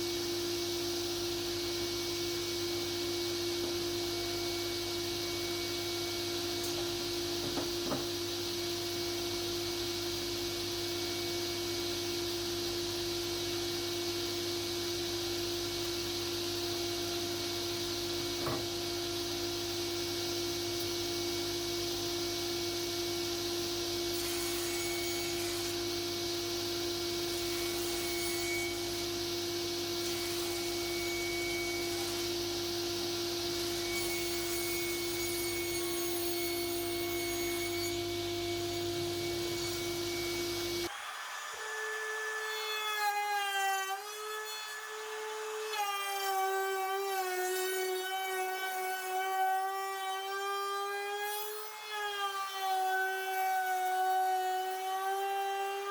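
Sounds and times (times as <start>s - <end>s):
power tool cutting wood: 0.0s - 55.9s.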